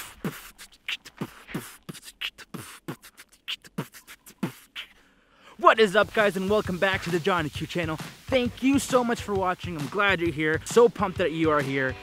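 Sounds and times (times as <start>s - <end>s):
man beatboxing: 0.0s - 5.0s, 5.6s - 12.0s.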